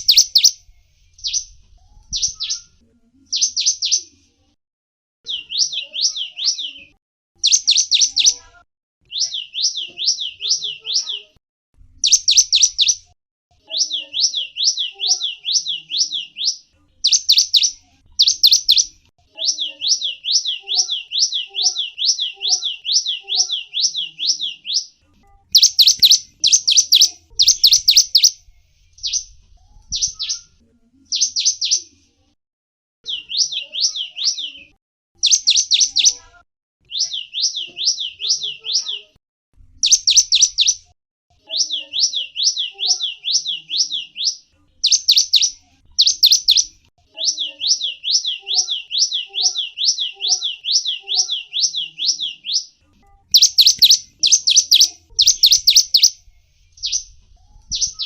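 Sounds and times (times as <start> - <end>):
songbird chirping and trilling: 0.0 - 4.4, 5.2 - 32.1, 33.0 - 58.0.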